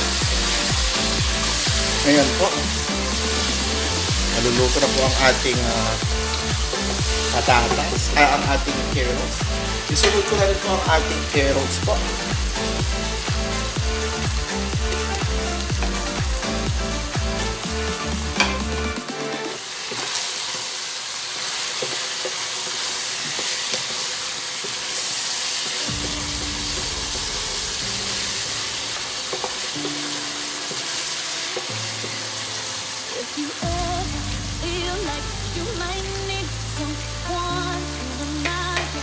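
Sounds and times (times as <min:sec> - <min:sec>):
background music: 0:00.0 - 0:19.8, 0:25.8 - 0:39.0
food sizzling in a pot: 0:00.0 - 0:39.0.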